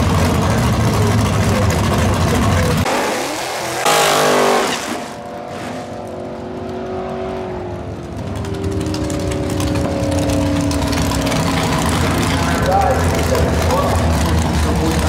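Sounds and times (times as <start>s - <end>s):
drag car engine revving: 0.0s - 15.0s.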